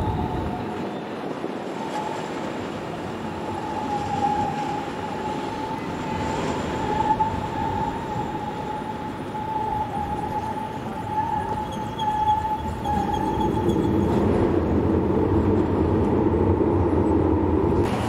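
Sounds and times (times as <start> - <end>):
tram passing with high whine: 0.0 - 18.0.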